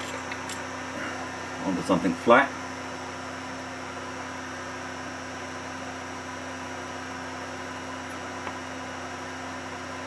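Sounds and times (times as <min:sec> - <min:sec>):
cooling fans humming: 0:00.0 - 0:10.0.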